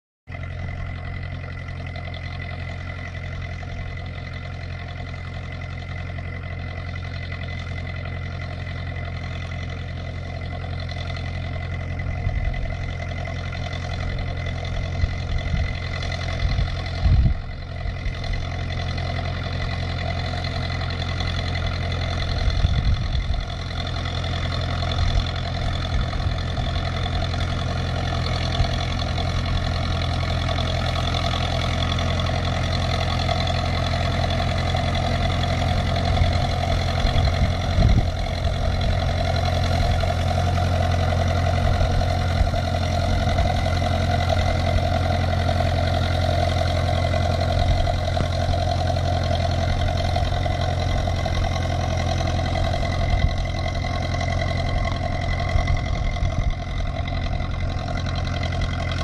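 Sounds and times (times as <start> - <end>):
tractor engine under load: 0.3 - 59.0.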